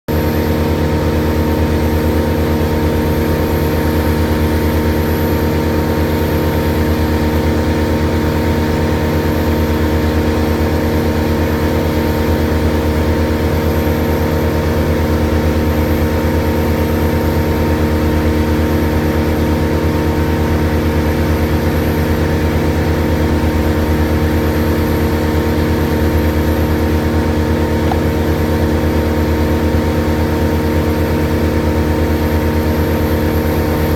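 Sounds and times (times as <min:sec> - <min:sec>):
large engine droning steadily: 0:00.0 - 0:33.9.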